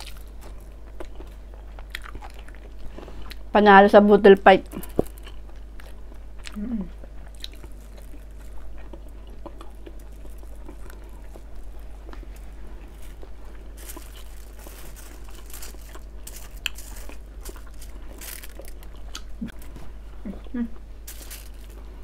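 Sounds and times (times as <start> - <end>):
chewing: 0.0 - 3.4, 4.7 - 22.0.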